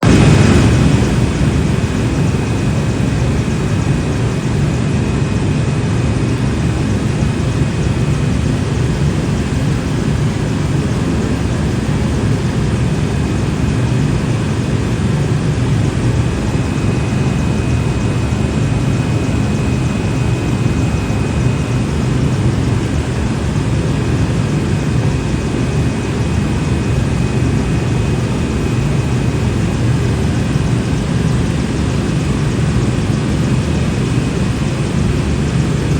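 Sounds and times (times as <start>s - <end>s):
helicopter engine and rotor drone: 0.0s - 35.9s
high-pitched whine: 0.0s - 35.9s.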